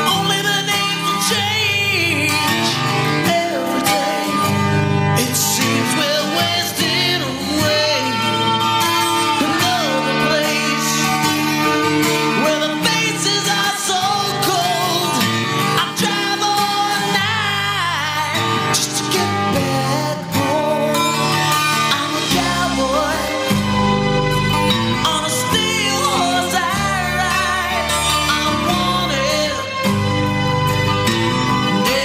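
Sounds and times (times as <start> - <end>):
person singing: 0.0 - 23.9, 24.6 - 30.1, 31.0 - 32.0
guitar: 0.0 - 32.0.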